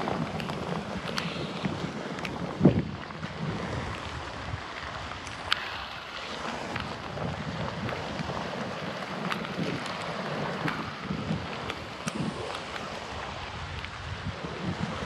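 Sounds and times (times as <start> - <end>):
sea washing on rocky shore: 0.0 - 15.0
wind gusting over microphone: 0.0 - 15.0.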